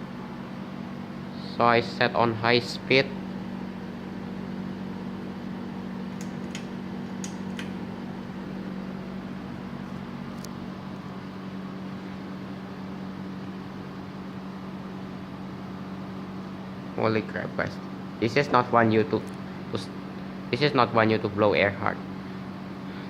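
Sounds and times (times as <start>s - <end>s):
ceiling fan humming: 0.0s - 23.0s.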